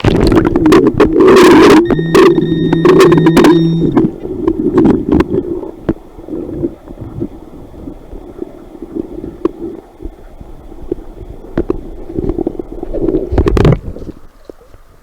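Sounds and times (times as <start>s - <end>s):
water sloshing and gurgling: 0.0s - 14.9s.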